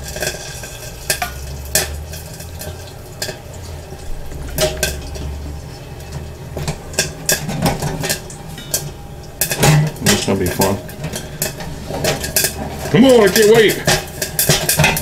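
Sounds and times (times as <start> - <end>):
popcorn kernels popping: 0.0 - 15.0
popcorn machine humming: 0.0 - 15.0.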